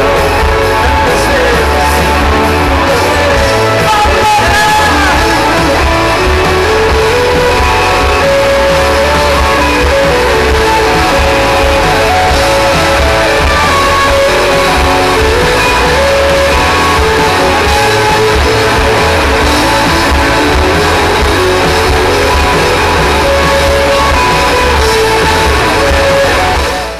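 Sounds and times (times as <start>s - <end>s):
rock band playing live: 0.0s - 26.9s.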